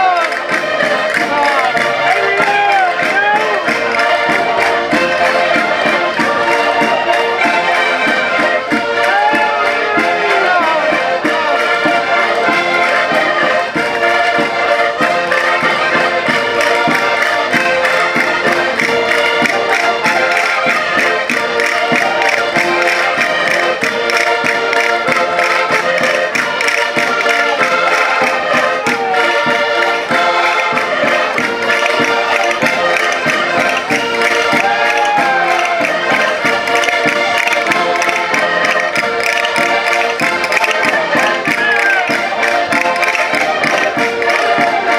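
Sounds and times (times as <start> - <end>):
concertinas playing folk dance: 0.0 - 44.9.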